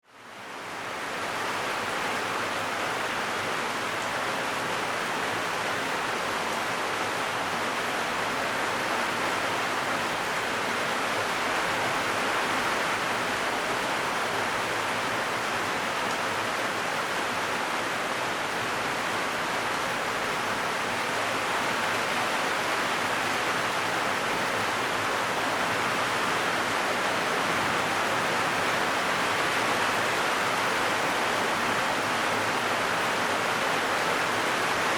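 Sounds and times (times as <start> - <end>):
heavy rain on metal roof: 0.0 - 34.9.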